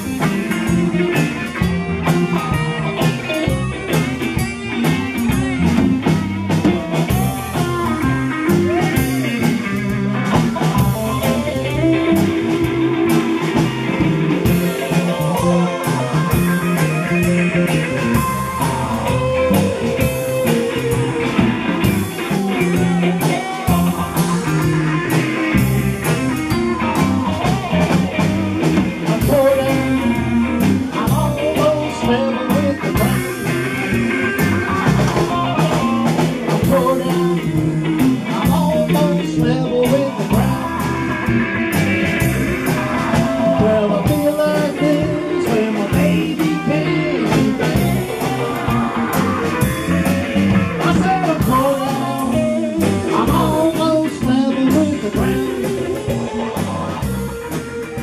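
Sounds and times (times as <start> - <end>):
drum beat: 0.0 - 58.0
rock band playing: 0.0 - 58.0.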